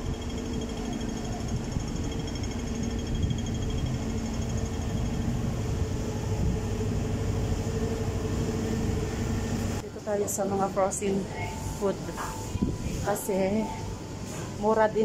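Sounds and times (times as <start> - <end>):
city street low rumble: 0.0 - 15.0
constant hum: 0.0 - 15.0.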